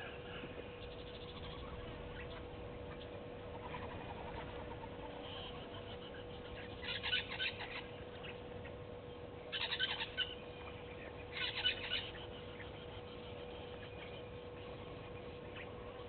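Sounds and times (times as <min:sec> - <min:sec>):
bird chattering calls: 0:00.0 - 0:08.8, 0:09.5 - 0:16.0
faint hum: 0:00.0 - 0:16.0.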